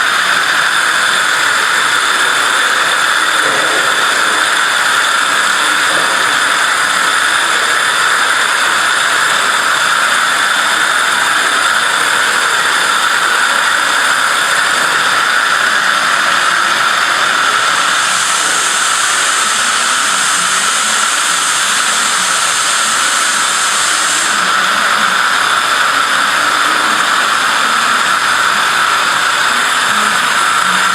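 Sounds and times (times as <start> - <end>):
waterjet cutter hissing: 0.0 - 30.9.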